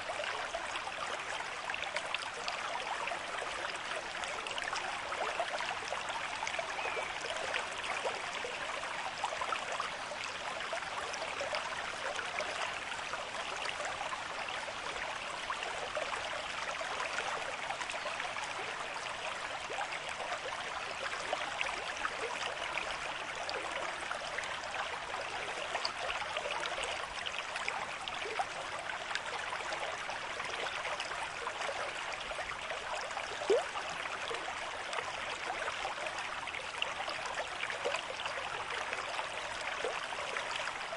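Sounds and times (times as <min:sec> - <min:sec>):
river stream flowing: 0:00.0 - 0:40.9.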